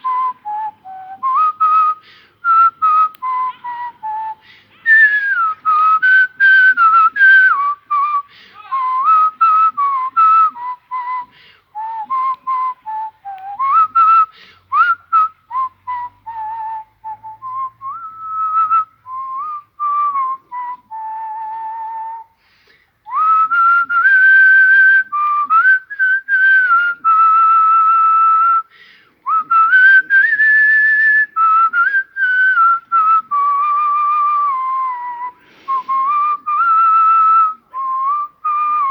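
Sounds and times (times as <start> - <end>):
man whistling a melody: 0.0 - 38.9.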